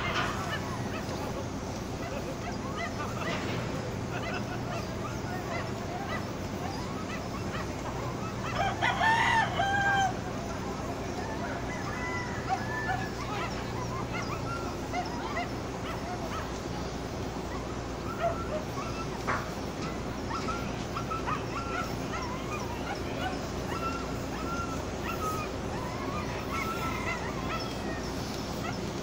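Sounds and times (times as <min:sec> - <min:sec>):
high-pitched yelping calls: 0:00.0 - 0:29.0.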